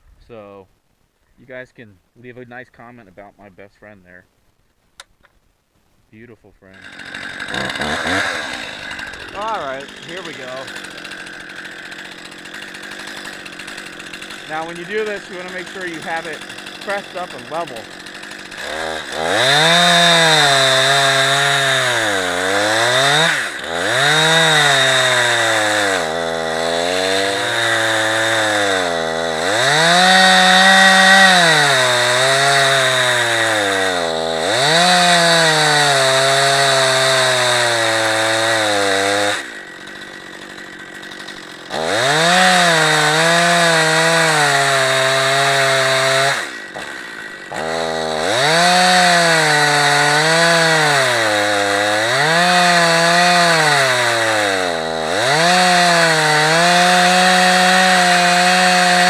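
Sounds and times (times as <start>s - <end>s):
chainsaw ripping log: 6.7s - 59.0s.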